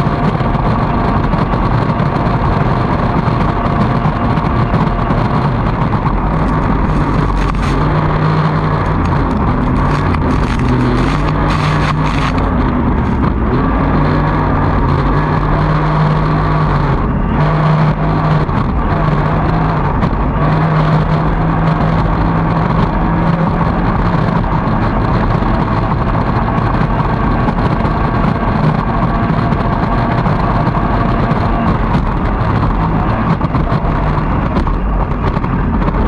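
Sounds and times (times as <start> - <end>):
racing boat engine running hard: 0.0 - 36.0.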